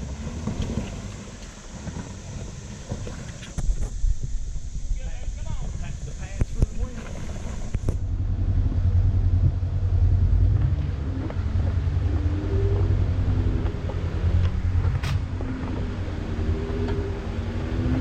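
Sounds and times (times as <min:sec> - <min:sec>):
engine rumbling off-road: 0:00.0 - 0:18.0.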